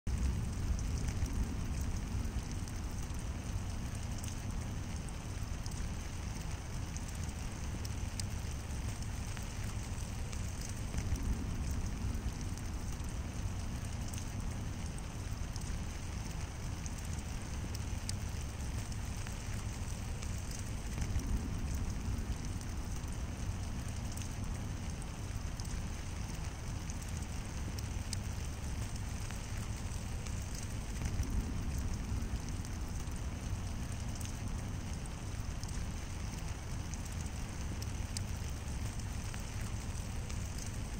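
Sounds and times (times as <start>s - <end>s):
low rumble: 0.1s - 40.9s
rain on water and leaves: 0.1s - 40.9s.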